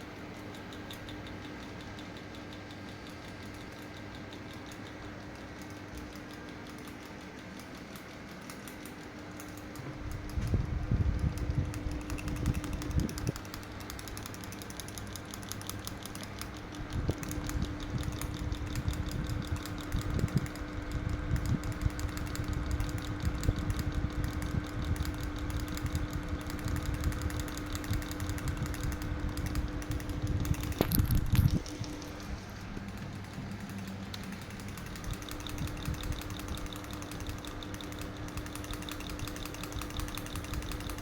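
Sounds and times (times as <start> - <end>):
ceiling fan motor hum: 0.0 - 41.0
rapid regular ticking: 0.0 - 41.0.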